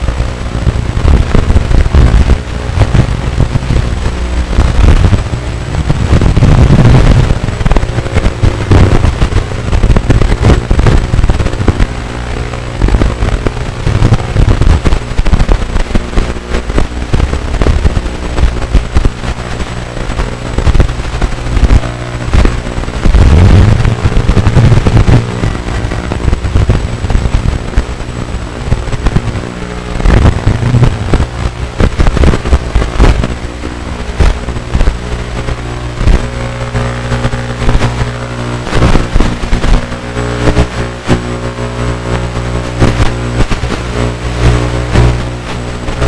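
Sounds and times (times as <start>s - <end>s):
drone motors buzzing: 0.0s - 46.0s
wind buffeting crackle: 0.0s - 46.0s.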